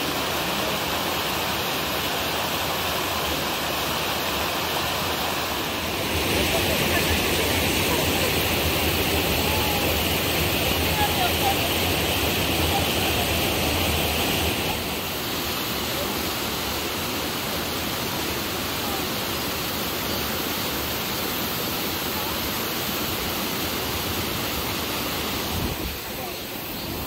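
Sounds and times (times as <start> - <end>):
stream rushing over boulders: 0.0 - 27.0.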